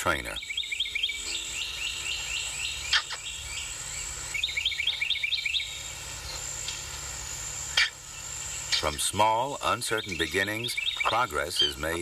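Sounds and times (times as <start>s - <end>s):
high-pitched whine: 0.0s - 12.0s
small bird chirping: 0.3s - 6.9s, 7.6s - 12.0s.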